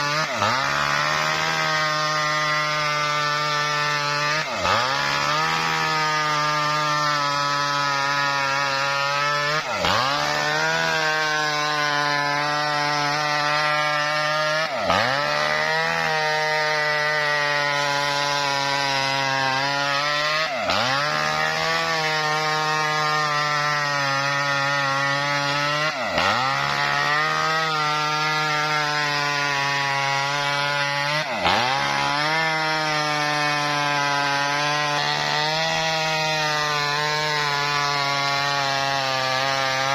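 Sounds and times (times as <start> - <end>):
wood-cutting machine engine under load: 0.0 - 39.9.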